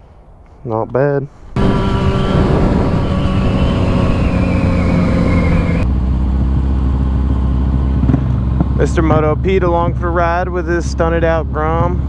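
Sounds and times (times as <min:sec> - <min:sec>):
wind noise: 0:01.3 - 0:12.0
motorcycle engine: 0:01.5 - 0:12.0.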